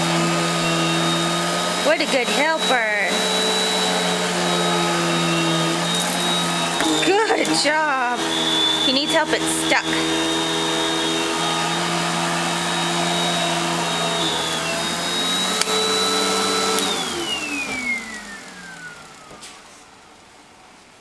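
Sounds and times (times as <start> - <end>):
vacuum cleaner motor whine: 0.0 - 20.8.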